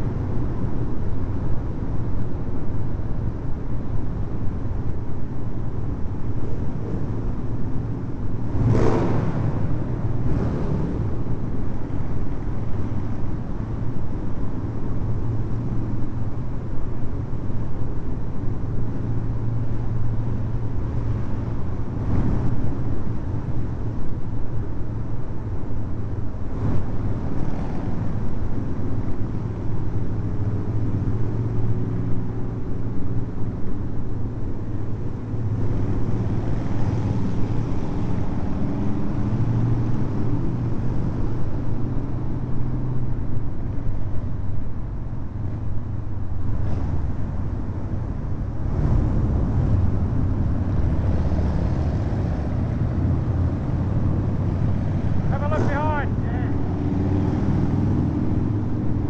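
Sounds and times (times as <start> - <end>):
other motorcycles riding: 0.0 - 59.0.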